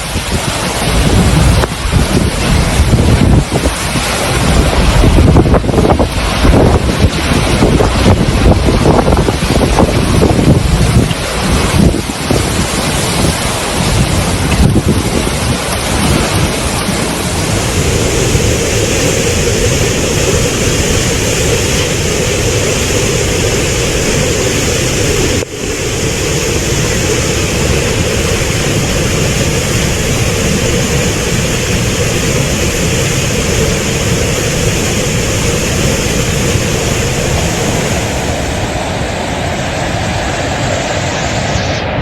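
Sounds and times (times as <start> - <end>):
flood water rushing: 0.0 - 42.0.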